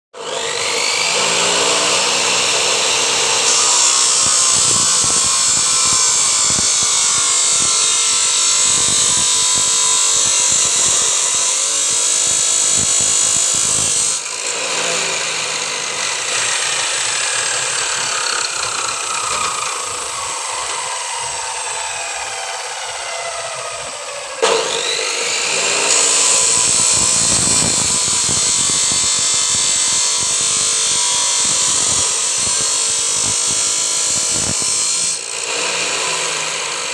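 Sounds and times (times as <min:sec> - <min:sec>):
power tool motor whine: 0:00.2 - 0:36.9.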